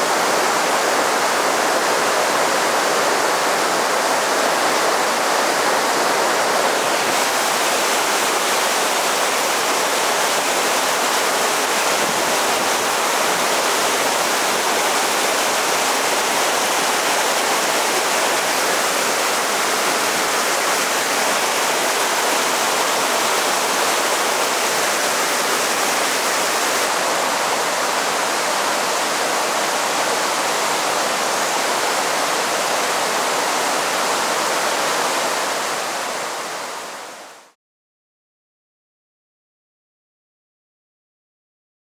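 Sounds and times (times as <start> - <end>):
river rapids rushing over rocks: 0.0 - 37.3.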